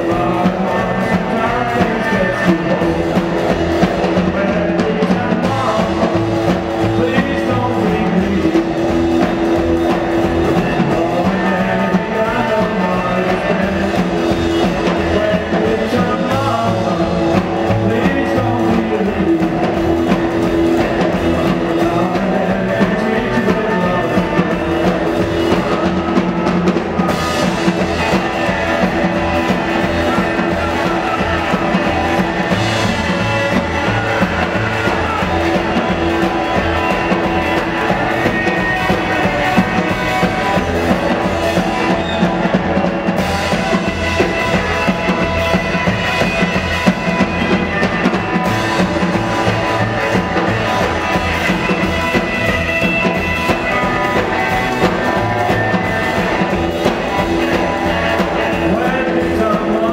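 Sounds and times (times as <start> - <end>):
rock and roll band playing: 0.0 - 59.9
upright double bass: 0.0 - 59.9.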